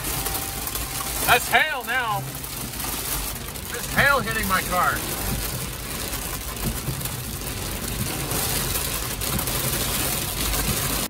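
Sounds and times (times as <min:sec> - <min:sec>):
hail and rain on car roof: 0:00.0 - 0:11.0.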